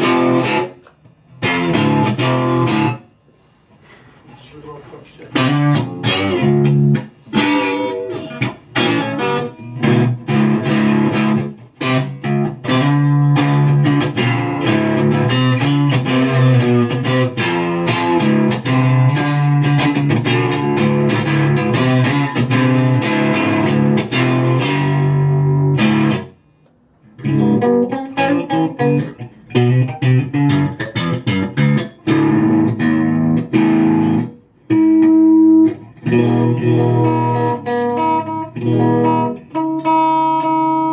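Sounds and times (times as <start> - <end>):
electric guitar notes and chords: 0.0 - 3.1, 5.3 - 40.9.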